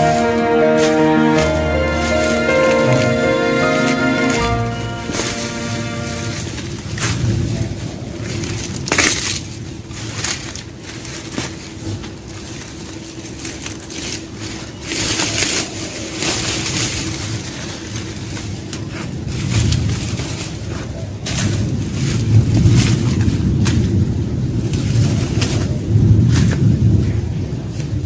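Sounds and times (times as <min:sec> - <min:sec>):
dry leaves crunching: 0:00.0 - 0:26.7.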